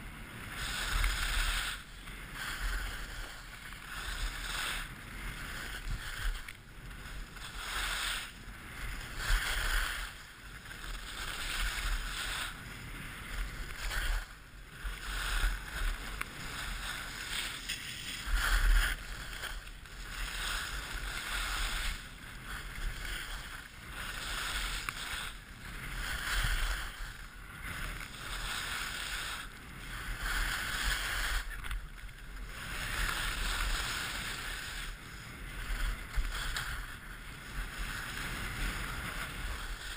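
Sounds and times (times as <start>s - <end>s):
skis scraping snow: 0.0s - 39.9s.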